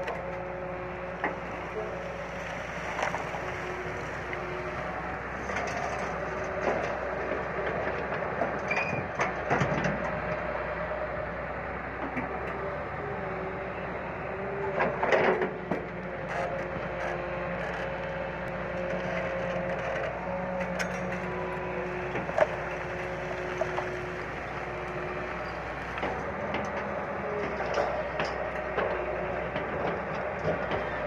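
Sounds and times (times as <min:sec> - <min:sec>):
excavator diesel engine running: 0:00.0 - 0:31.0
hydraulic whine: 0:00.0 - 0:31.0.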